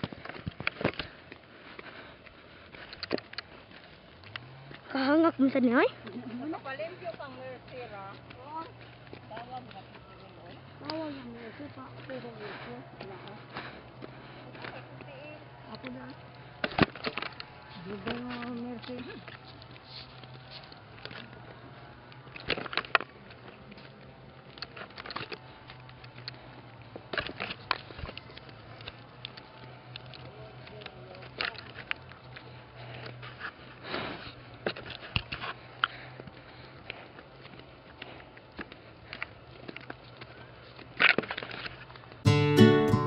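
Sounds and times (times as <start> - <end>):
footsteps crunching on gravel: 0.0 - 42.2.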